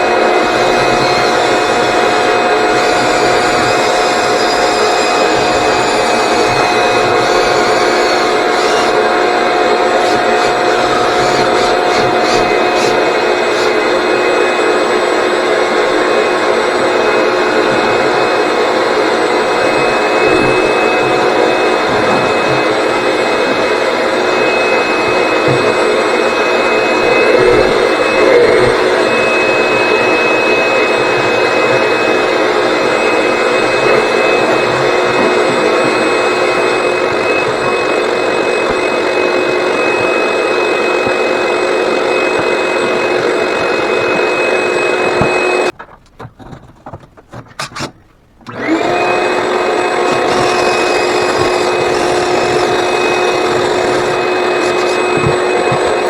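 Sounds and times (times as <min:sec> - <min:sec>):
vacuum running with high whine: 0:00.0 - 0:45.8, 0:48.4 - 0:56.0.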